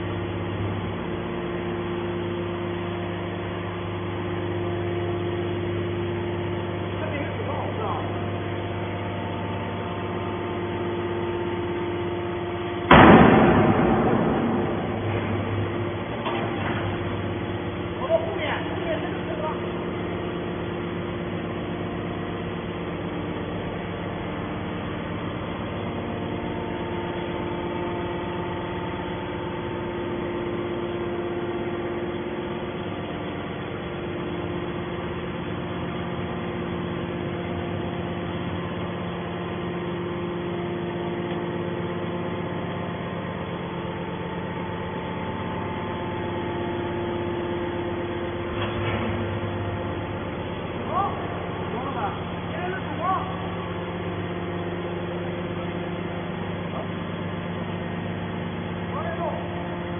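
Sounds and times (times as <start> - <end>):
motor and hydraulic pump humming: 0.0 - 59.9.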